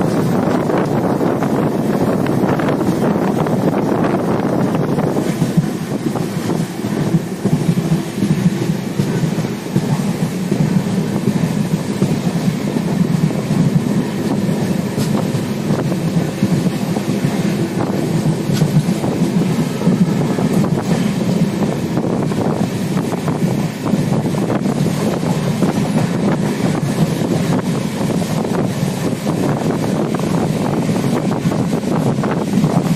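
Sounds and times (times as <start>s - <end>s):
train wheels rumbling on rails: 0.0s - 32.9s
wind noise: 0.0s - 32.9s.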